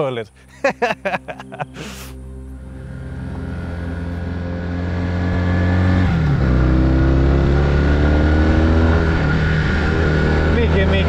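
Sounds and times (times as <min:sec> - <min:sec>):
motorcycle engine accelerating: 0:01.1 - 0:11.0.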